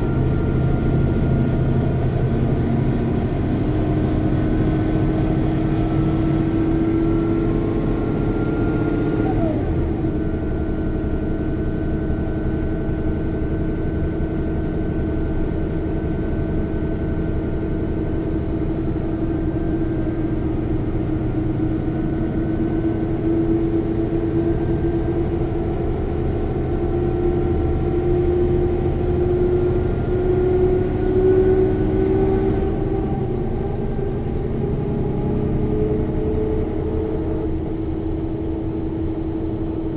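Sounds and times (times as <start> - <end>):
bus diesel engine running: 0.0 - 39.9
rear axle whine: 0.0 - 39.9.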